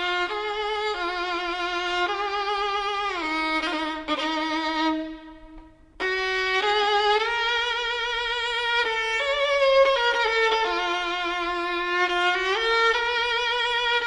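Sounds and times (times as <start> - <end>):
solo melody with strong vibrato: 0.0 - 14.0.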